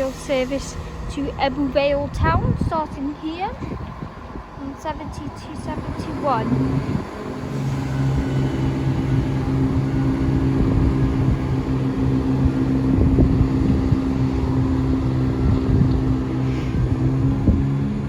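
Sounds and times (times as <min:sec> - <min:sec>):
train engines droning: 0:00.0 - 0:18.0
wind on microphone: 0:00.0 - 0:18.0.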